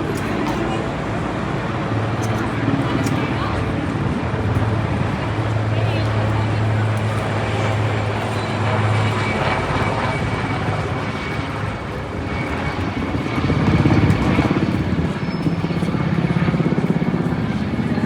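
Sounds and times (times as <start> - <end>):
helicopter rotor chop and engine: 0.0 - 18.0.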